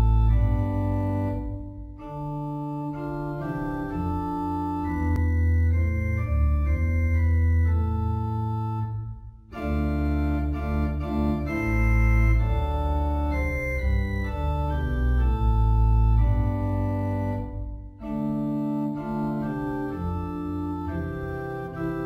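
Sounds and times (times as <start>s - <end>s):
organ playing sustained chords: 0.0s - 22.0s.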